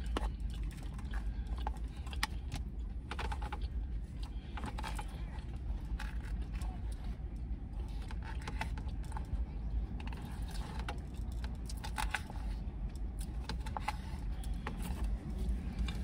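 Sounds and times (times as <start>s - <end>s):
crisp chewing crunches: 0.0s - 16.0s
low steady rumble: 0.0s - 16.0s.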